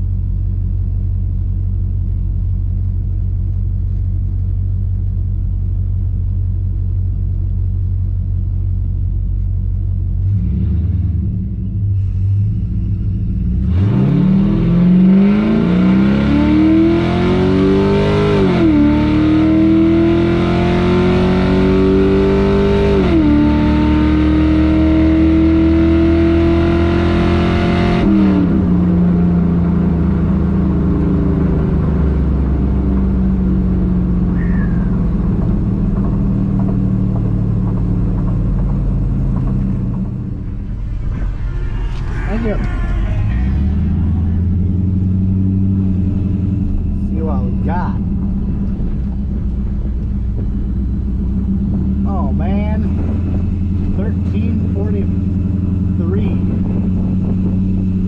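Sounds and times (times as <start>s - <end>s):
engine at full throttle: 10.2s - 58.0s.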